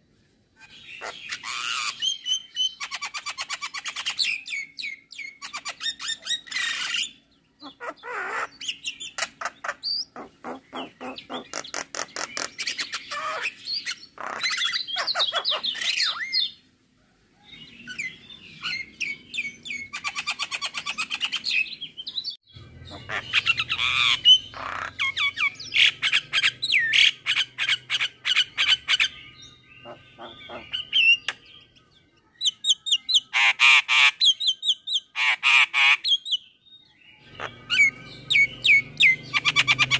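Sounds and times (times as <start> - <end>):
bird singing varied song: 0.0 - 16.7, 17.3 - 39.9.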